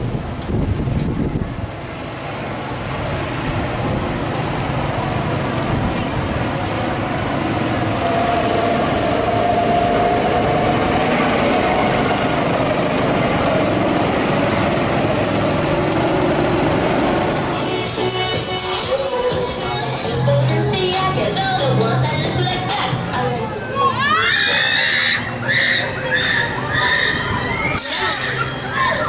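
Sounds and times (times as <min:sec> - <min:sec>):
go-kart engines droning: 0:01.0 - 0:29.0.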